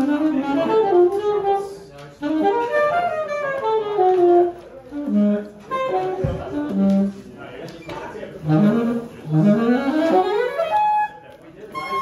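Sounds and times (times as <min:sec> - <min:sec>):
saxophone playing jazz runs: 0:00.0 - 0:07.3, 0:08.4 - 0:12.0.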